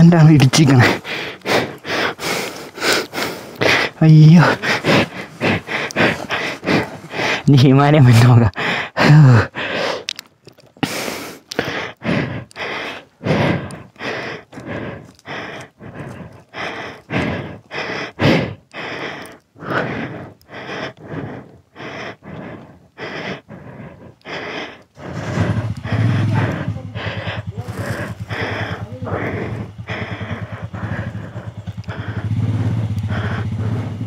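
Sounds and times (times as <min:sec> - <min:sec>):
person panting: 0:00.0 - 0:34.0.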